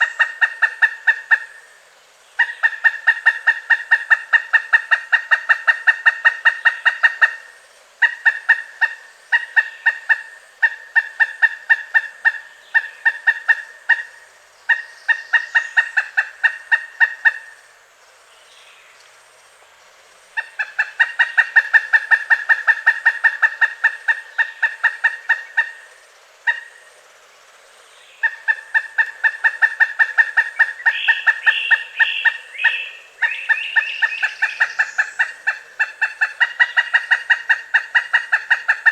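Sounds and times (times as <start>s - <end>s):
woodpecker calling: 0.0s - 19.1s, 20.0s - 38.9s.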